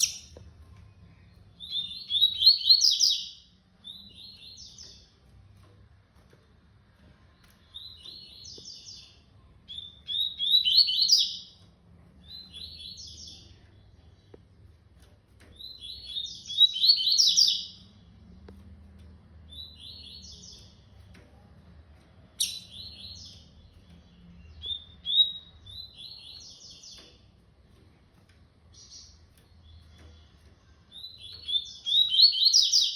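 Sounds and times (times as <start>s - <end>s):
small bird singing: 0.0s - 5.7s, 7.3s - 18.2s, 19.0s - 21.2s, 22.3s - 27.4s, 28.6s - 32.9s.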